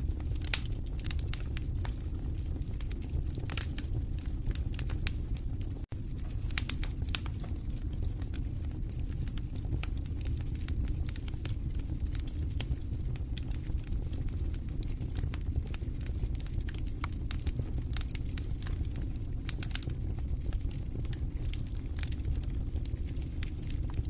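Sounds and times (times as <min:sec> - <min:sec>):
low rumble of burning flames: 0:00.0 - 0:24.0
wood fire crackling: 0:00.0 - 0:24.0.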